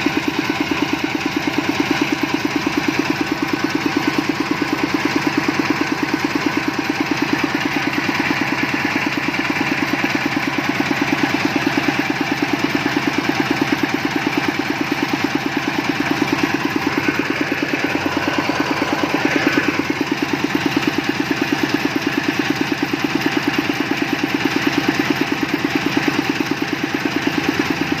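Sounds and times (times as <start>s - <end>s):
drilling rig engine running: 0.0s - 28.0s.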